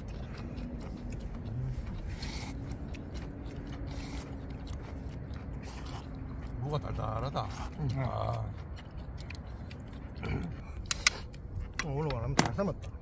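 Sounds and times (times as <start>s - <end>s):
slurping and chewing noodles: 0.0s - 12.1s.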